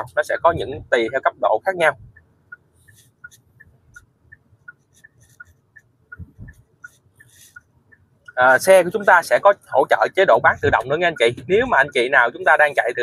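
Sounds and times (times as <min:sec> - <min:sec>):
turn-signal indicator ticking: 0:00.0 - 0:13.0.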